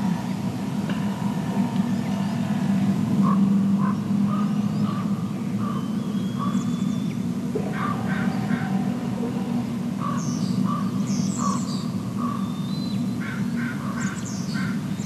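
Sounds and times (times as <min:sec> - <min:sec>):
low motor drone: 0:00.0 - 0:15.0
bird calling: 0:01.0 - 0:15.0.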